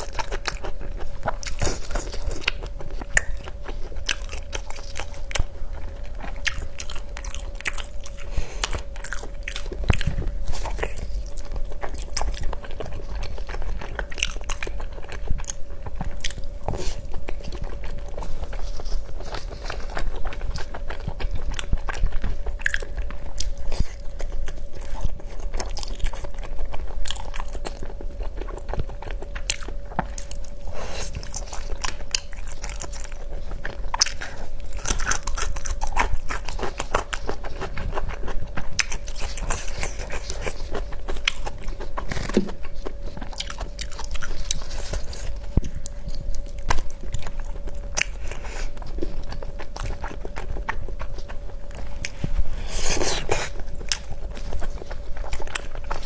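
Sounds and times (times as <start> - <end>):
faint steady hum: 0.0 - 56.0
person chewing crunchy food: 0.0 - 56.0.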